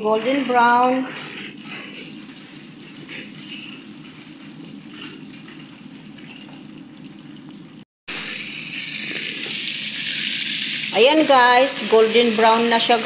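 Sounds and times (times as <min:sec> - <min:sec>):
chicken deep-frying in hot oil: 0:00.0 - 0:13.0.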